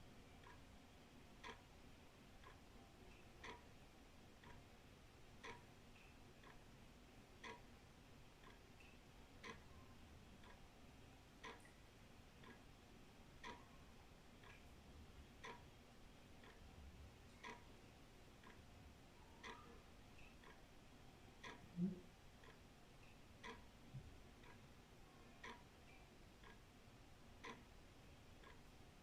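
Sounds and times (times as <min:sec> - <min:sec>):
wall clock ticking: 0:00.0 - 0:29.0.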